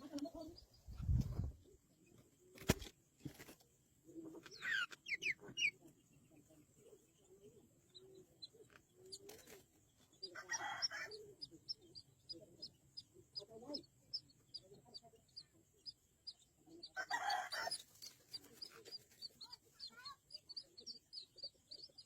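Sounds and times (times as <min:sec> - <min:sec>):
bird chirping: 0:04.1 - 0:22.0.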